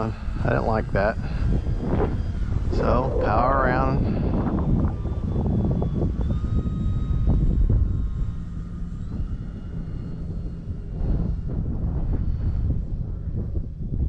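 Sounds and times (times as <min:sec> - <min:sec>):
electric model plane motor whine: 0:00.0 - 0:14.0
wind buffeting microphone: 0:00.0 - 0:14.0.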